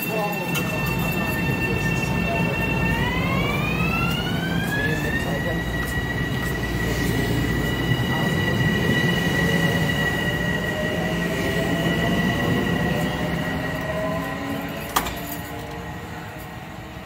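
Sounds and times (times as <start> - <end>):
electric train whine: 0.0 - 17.0
train cars rumbling past: 0.0 - 17.0.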